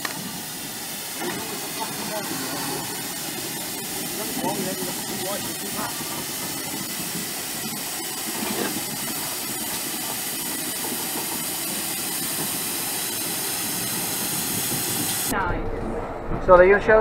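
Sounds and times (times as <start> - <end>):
steam hissing: 0.0 - 15.4
low locomotive rumble: 0.0 - 17.0.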